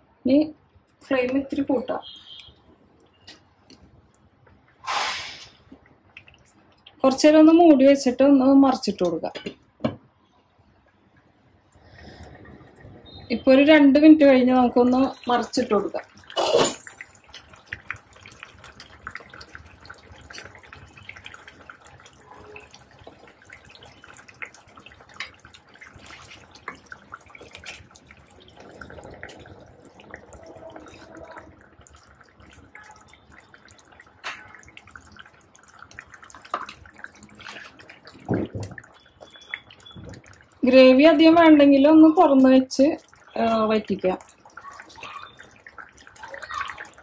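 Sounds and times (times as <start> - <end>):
gravy bubbling and popping: 0.0 - 47.0.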